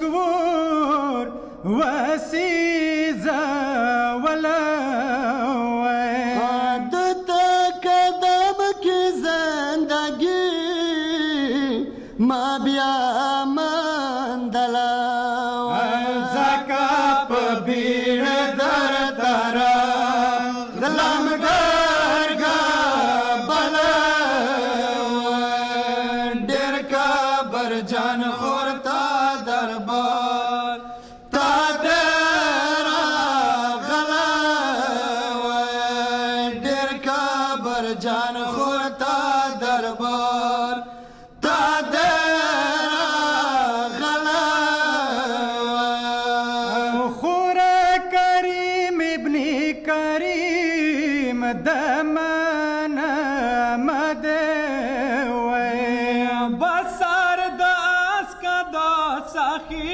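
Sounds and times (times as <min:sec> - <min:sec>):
men chanting in unison: 0:00.0 - 0:59.9.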